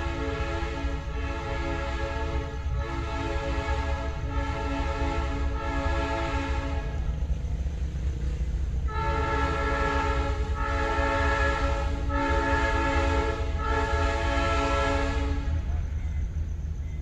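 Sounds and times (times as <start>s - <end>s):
train horn chord blasts: 0.0s - 7.1s, 8.9s - 15.7s
steady low rumble: 0.0s - 13.8s.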